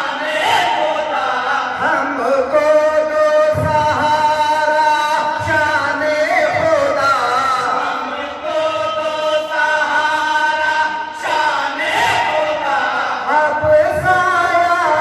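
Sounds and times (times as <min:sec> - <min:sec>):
men singing in chorus: 0:00.0 - 0:15.0.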